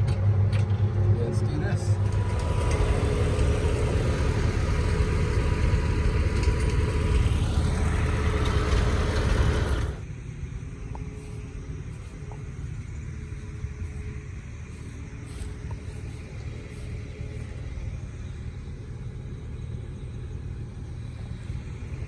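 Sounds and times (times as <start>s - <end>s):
tractor engine running: 0.2s - 22.0s.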